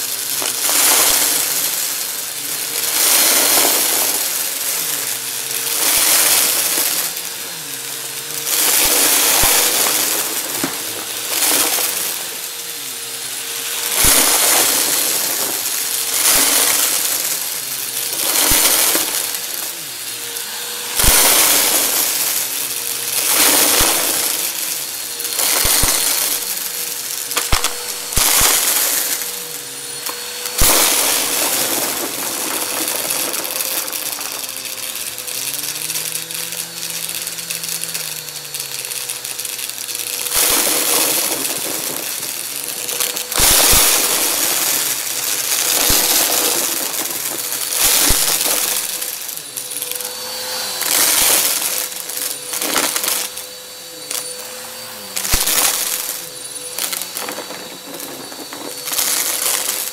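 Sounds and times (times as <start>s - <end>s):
debris crunching through vacuum nozzle: 0.0s - 59.9s
vacuum cleaner running: 0.0s - 59.9s.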